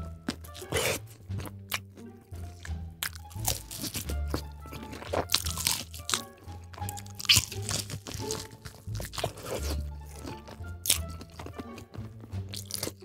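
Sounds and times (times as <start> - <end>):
quiet background music: 0.0 - 13.0
person chewing crunchy food: 0.2 - 13.0.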